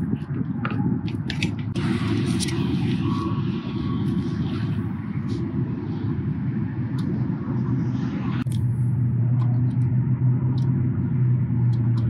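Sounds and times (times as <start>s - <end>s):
low rumble with hum: 0.0s - 12.0s.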